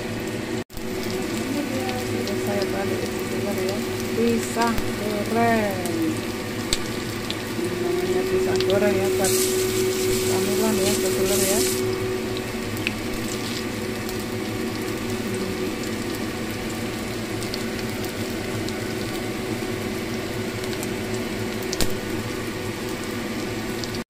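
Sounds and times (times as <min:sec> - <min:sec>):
steady hum: 0:00.0 - 0:23.2
fritters sizzling in hot oil: 0:00.0 - 0:24.0.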